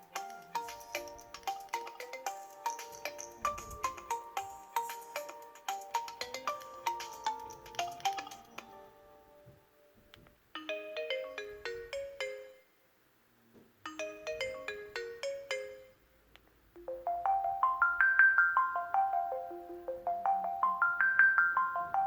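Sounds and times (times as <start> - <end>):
phone ringtone melody: 0.0 - 8.9, 10.6 - 12.7, 13.9 - 16.0, 16.8 - 22.0.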